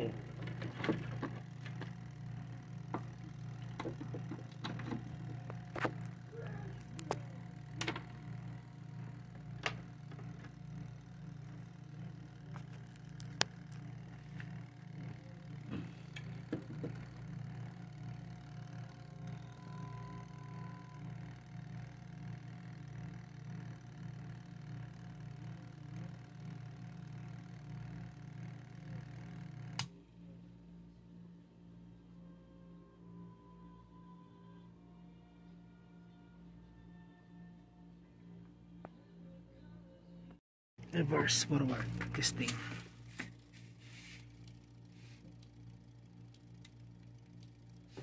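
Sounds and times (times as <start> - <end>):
steady low hum: 0.0 - 34.7, 37.8 - 48.0.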